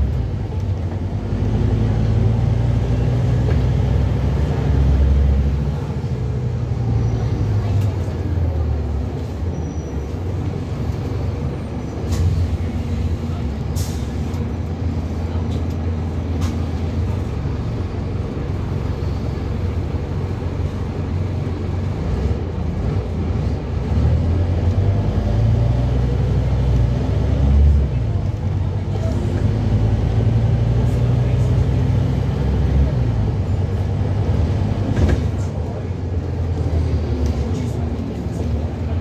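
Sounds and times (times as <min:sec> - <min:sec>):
bus diesel engine rumbling: 0:00.0 - 0:39.0.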